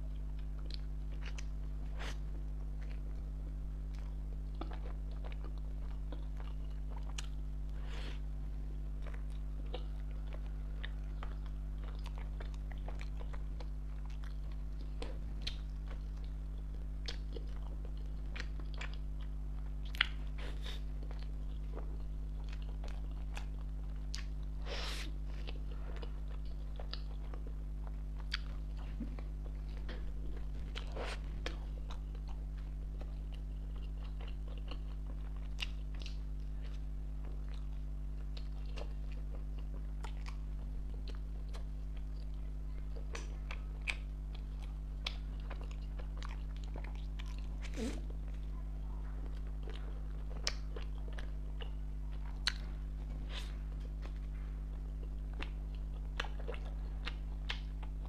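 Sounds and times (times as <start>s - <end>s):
person chewing soft bread: 0.0s - 58.0s.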